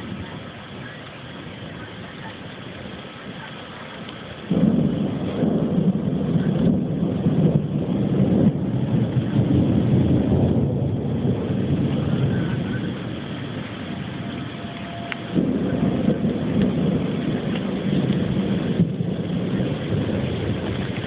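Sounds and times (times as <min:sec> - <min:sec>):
thunder rumbling: 0:00.0 - 0:21.0.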